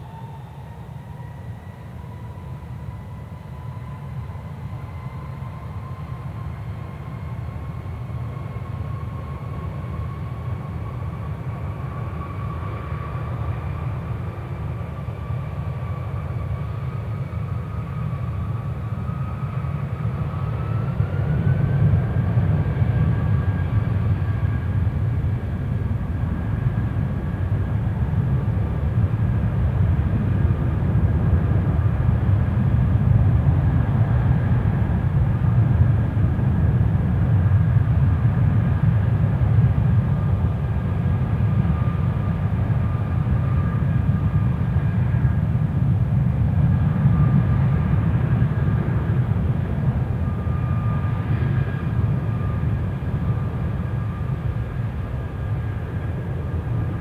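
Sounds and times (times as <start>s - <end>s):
jet engine deep rumble: 0.0s - 57.0s
jet engine whining: 7.6s - 57.0s.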